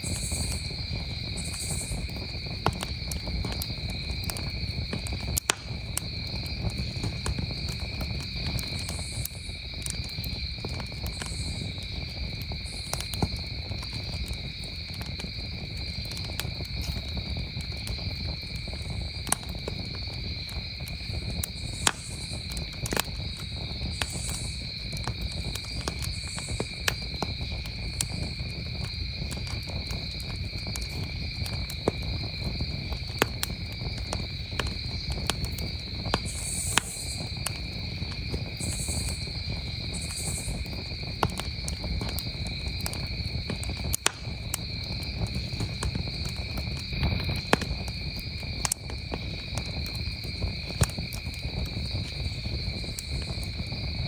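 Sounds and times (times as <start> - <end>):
campfire crackling and popping: 0.0 - 54.0
crickets chirping: 0.0 - 54.0
low rumble of fire: 0.0 - 54.0.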